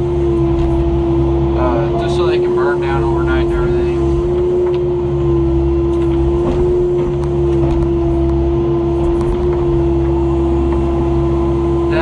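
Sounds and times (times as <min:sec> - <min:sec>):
constant high whine: 0:00.0 - 0:12.0
excavator diesel engine running: 0:00.0 - 0:12.0.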